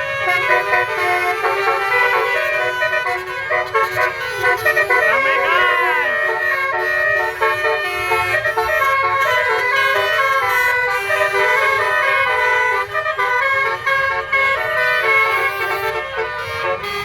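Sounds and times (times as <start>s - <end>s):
multi-tone vehicle horn melody: 0.0s - 17.0s.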